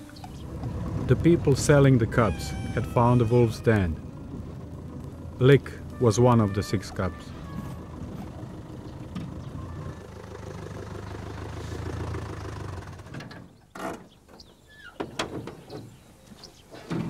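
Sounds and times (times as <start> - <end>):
vehicle engine humming: 0.0 - 14.2.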